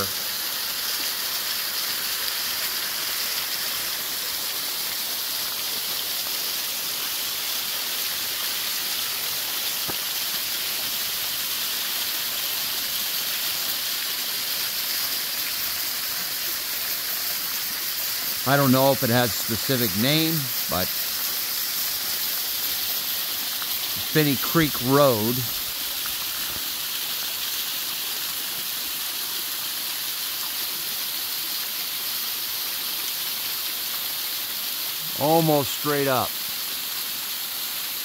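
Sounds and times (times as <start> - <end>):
waterfall splashing onto rock: 0.0 - 19.7, 20.3 - 38.0.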